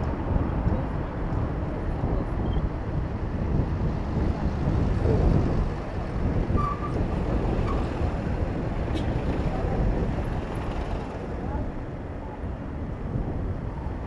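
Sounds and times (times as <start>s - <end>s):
road traffic: 0.0s - 14.0s
wind rumbling on microphone: 0.0s - 14.0s.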